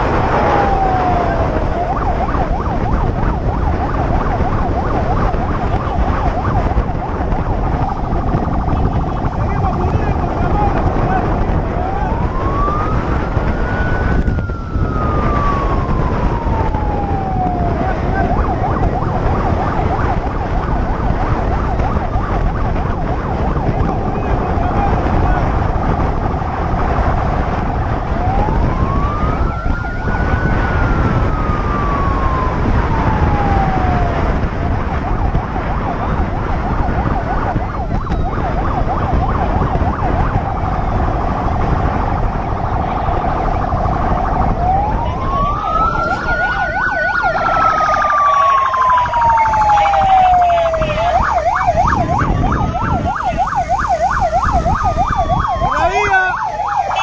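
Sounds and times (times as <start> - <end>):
motorcycle siren wailing and yelping: 0.0 - 57.0
wind rush: 0.0 - 57.0.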